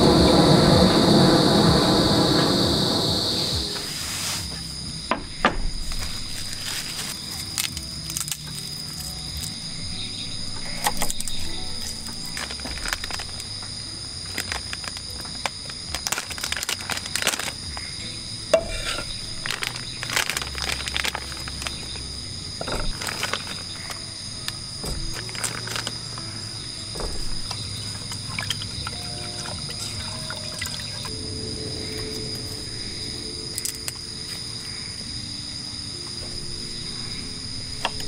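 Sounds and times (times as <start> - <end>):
insects chirping: 0.0 - 38.0
soft background music: 0.0 - 38.0.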